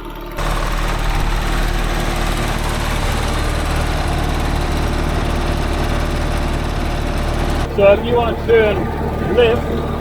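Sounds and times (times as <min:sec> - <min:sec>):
bulldozer diesel engine running: 0:00.0 - 0:10.0.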